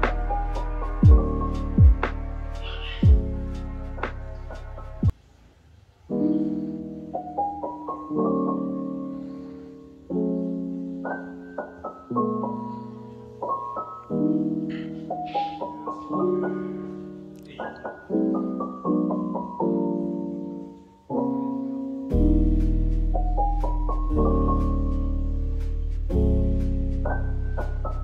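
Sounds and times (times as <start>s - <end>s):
piano music: 0.0s - 5.2s, 6.1s - 28.0s.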